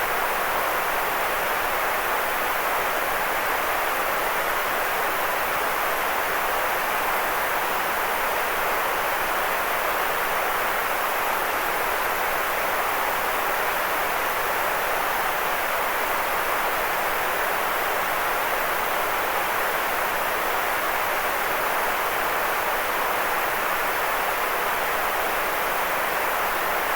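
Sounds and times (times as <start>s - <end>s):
white noise hiss: 0.0s - 26.9s.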